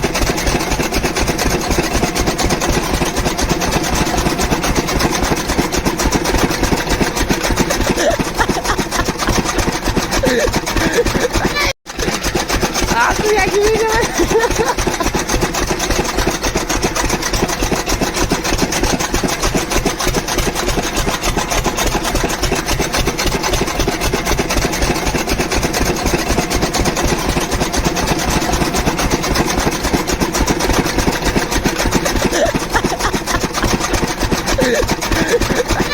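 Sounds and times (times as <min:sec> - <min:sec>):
chaff cutter chopping fodder: 0:00.0 - 0:35.9.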